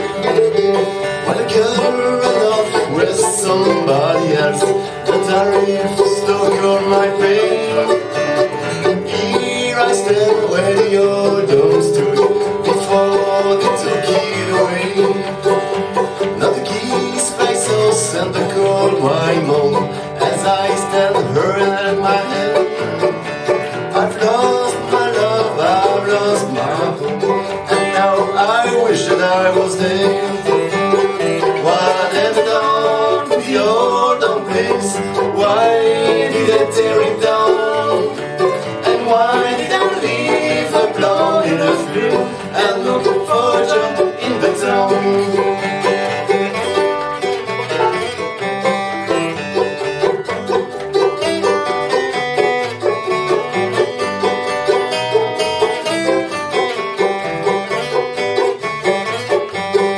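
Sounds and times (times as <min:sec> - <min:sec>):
acoustic guitar picking: 0:00.0 - 0:59.9
banjo: 0:00.0 - 0:59.9
mandolin: 0:00.0 - 0:59.9.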